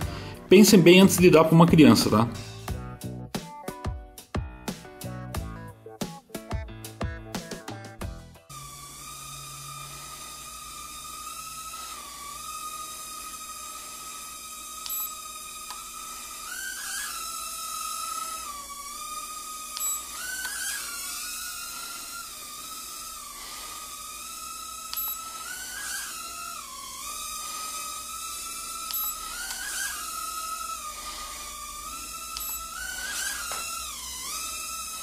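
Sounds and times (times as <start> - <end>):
quadcopter motors whining: 0.0 - 2.8, 8.5 - 35.0.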